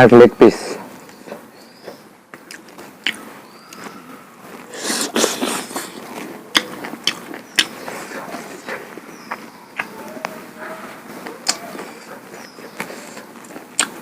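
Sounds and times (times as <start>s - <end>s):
chewing with wet mouth clicks: 1.0s - 14.0s.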